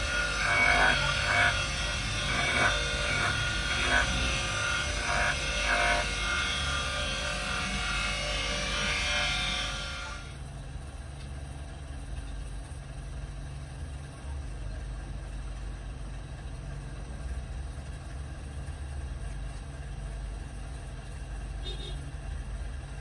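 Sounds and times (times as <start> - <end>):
constant low hum: 0.0 - 23.0
low mechanical rumble: 0.0 - 23.0.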